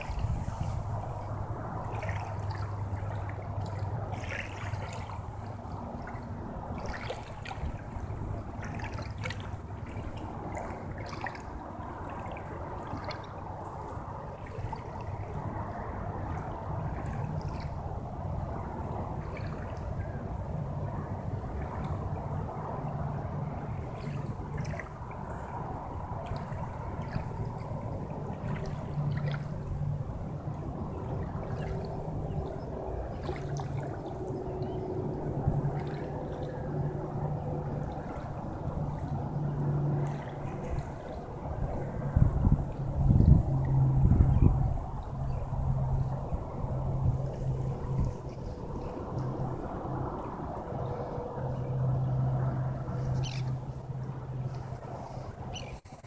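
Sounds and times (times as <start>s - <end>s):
low steady hum: 0.0s - 56.0s
water lapping at shore: 0.0s - 56.0s
water trickles and splashes: 0.0s - 56.0s.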